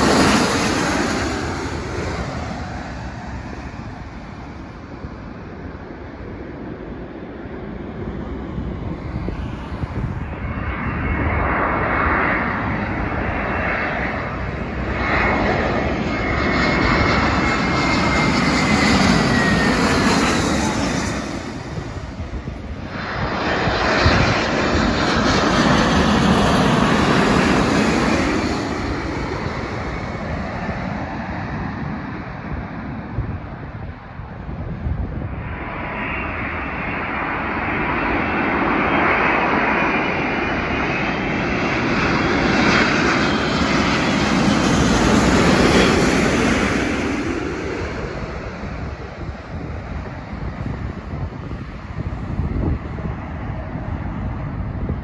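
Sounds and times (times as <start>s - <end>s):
jet airliners passing low: 0.0s - 55.0s.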